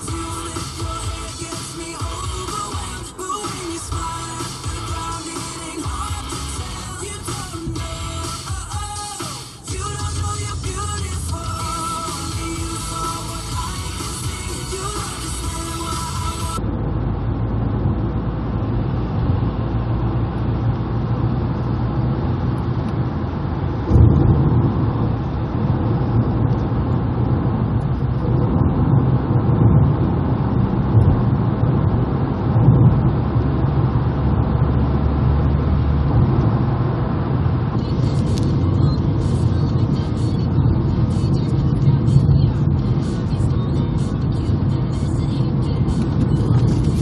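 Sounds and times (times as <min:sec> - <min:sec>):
car interior road and engine rumble: 0:00.0 - 0:47.0.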